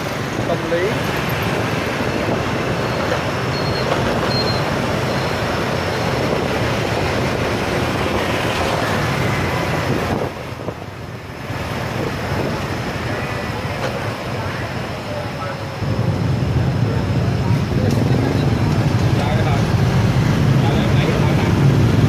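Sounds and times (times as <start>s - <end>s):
road noise: 0.0s - 22.0s
scooter and motorbike traffic: 0.0s - 22.0s.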